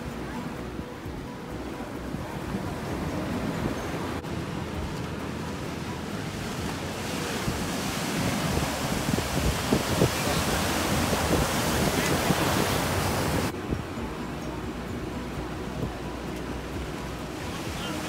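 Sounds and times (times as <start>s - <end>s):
surf breaking and washing in: 0.0s - 18.0s
wind buffeting microphone: 0.0s - 18.0s.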